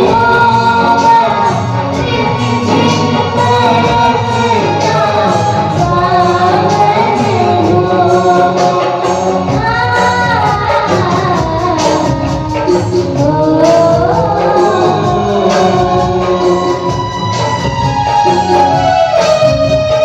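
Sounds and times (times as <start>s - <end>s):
girl singing: 0.0s - 16.1s
instrumental accompaniment with beat: 0.0s - 20.0s.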